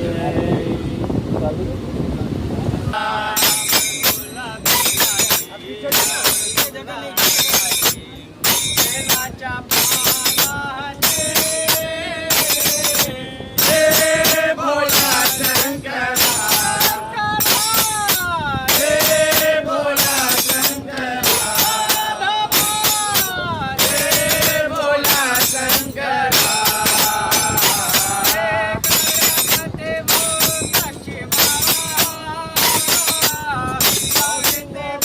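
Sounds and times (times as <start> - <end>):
men singing devotional song: 0.0 - 1.0, 2.9 - 35.0
jingling hand percussion: 3.2 - 35.0.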